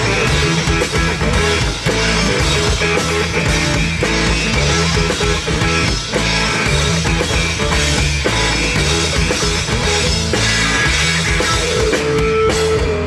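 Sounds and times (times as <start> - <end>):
drum kit: 0.0 - 13.0
electric guitars: 0.0 - 13.0.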